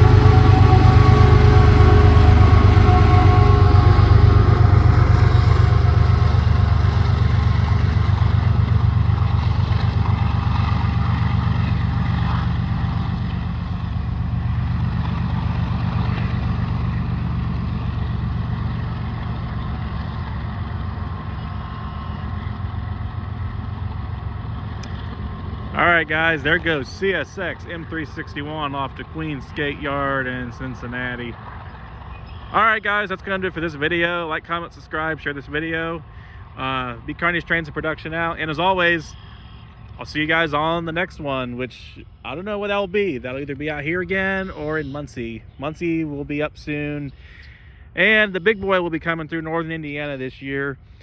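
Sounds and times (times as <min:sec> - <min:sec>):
locomotive diesel engine drone: 0:00.0 - 0:51.0.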